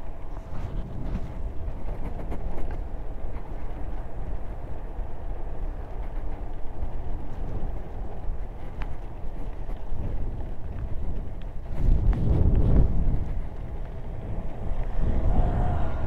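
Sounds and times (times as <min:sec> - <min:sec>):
scooter tyres rolling on asphalt: 0:00.0 - 0:16.0
wind buffeting microphone: 0:00.0 - 0:16.0.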